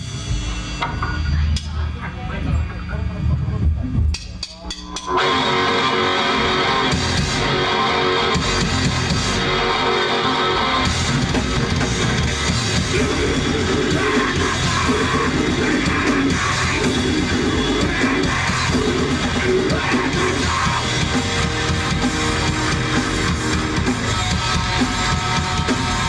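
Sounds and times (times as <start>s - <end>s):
rock band playing live: 0.0s - 2.0s, 4.2s - 26.0s
electric guitar: 5.0s - 26.0s.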